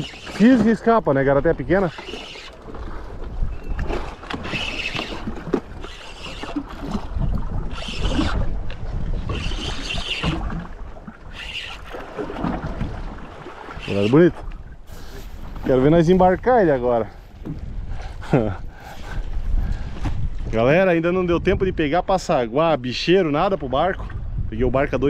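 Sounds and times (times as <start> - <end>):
water sloshing against boat: 0.0 - 20.8
wind buffeting microphone: 0.0 - 25.0.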